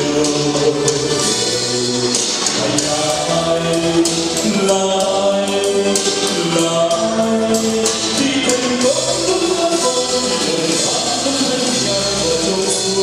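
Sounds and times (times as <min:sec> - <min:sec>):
accompanying music: 0:00.0 - 0:13.0
light regular percussion: 0:00.0 - 0:13.0
man singing into microphone: 0:00.0 - 0:13.0.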